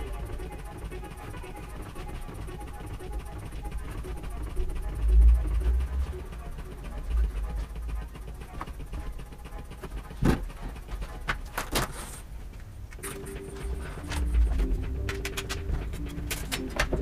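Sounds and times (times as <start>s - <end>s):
low steady rumble: 0.0s - 11.6s, 12.2s - 17.0s.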